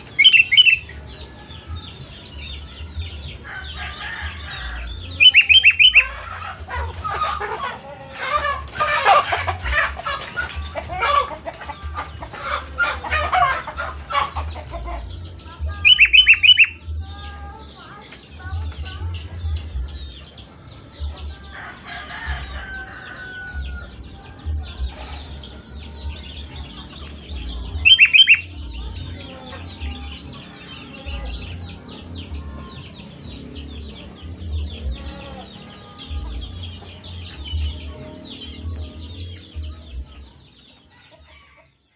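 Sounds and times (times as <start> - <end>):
birds chattering: 0.0 - 41.9.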